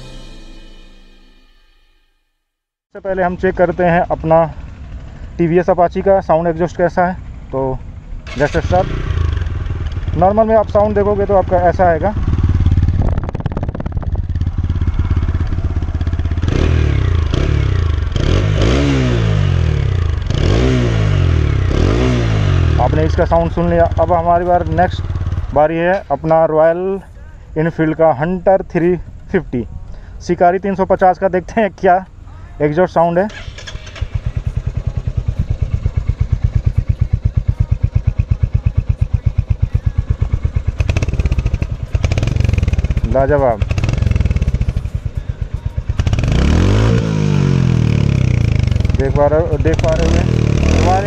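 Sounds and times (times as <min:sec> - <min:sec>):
motorcycle engine idling and revving: 0:03.0 - 0:51.0.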